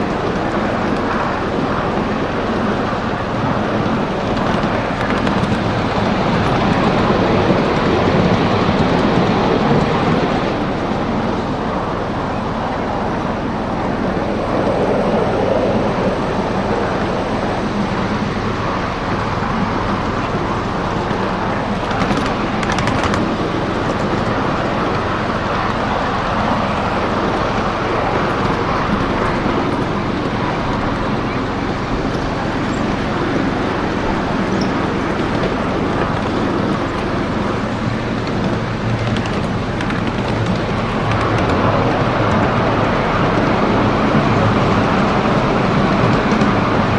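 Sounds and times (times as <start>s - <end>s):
small train wheels rumbling on rails: 0.0s - 46.9s.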